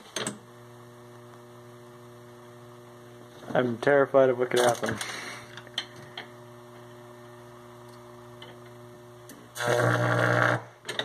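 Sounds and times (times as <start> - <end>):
harsh electrical buzz: 0.0 - 11.0.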